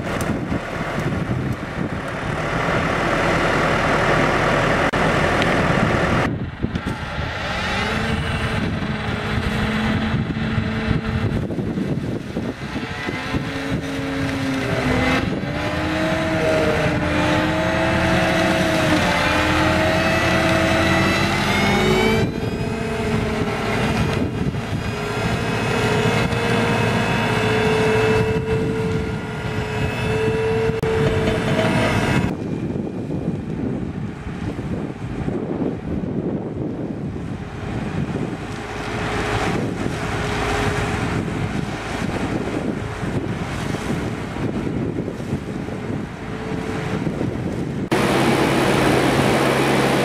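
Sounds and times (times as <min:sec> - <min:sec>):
flail mower cutting grass: 0:00.0 - 0:32.5, 0:37.2 - 0:50.0
tractor engine under load: 0:00.0 - 0:50.0.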